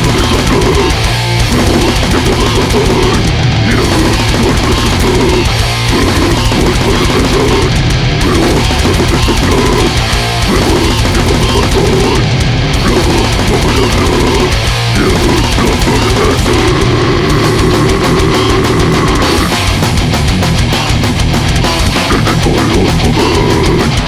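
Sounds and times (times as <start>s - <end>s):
distorted guitars and bass: 0.0s - 24.0s
fast dense drumming: 0.0s - 24.0s.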